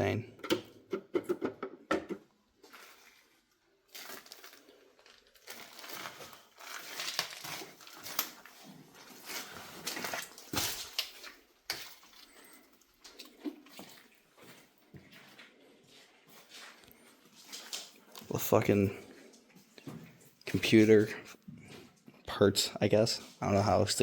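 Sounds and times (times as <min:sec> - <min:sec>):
rustling and crunching: 0:02.2 - 0:22.2.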